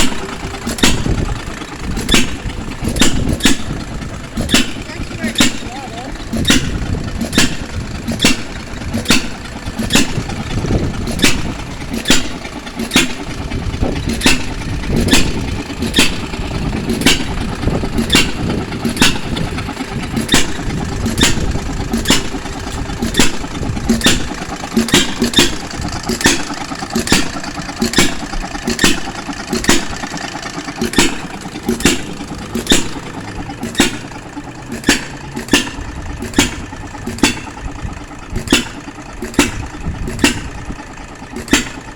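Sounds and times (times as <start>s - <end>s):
hit-and-miss engine cracking: 0.0s - 41.9s.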